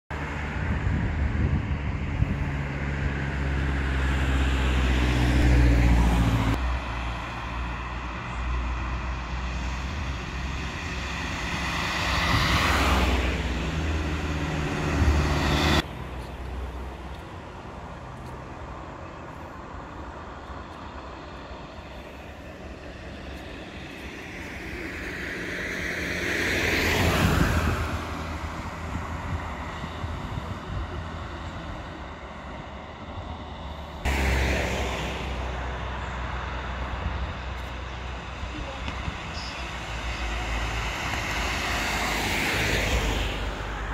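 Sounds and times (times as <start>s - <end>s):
cars passing: 0.1s - 43.9s.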